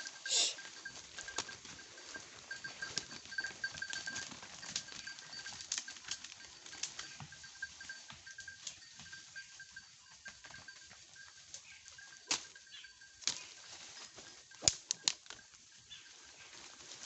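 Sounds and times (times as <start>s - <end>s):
rustling leaves and twigs: 0.0s - 17.0s.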